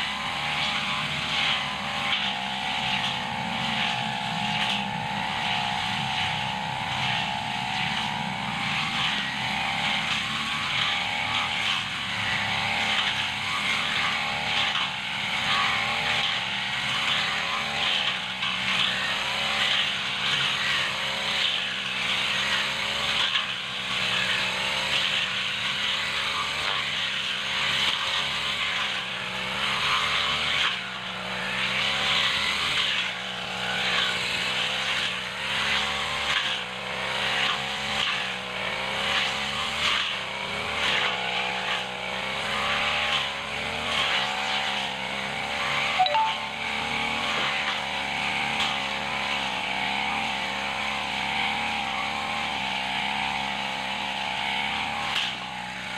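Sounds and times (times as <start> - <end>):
brush cutter engine running: 0.0 - 55.9
cutter head cutting grass: 0.0 - 55.9.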